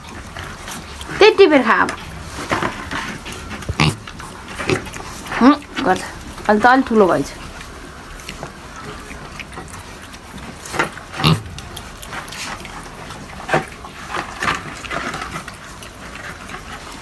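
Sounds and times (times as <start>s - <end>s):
young pigs grunting: 0.0s - 17.0s.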